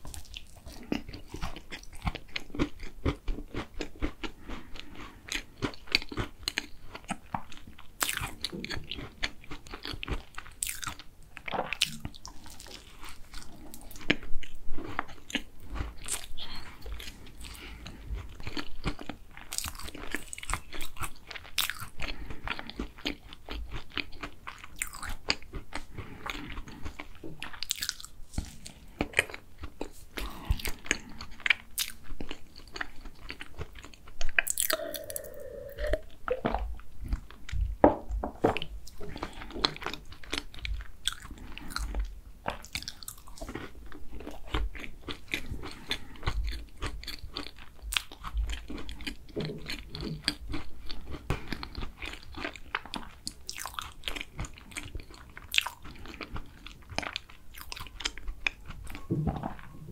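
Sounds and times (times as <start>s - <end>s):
crunchy pastry chewing: 0.0s - 37.8s, 38.5s - 59.9s.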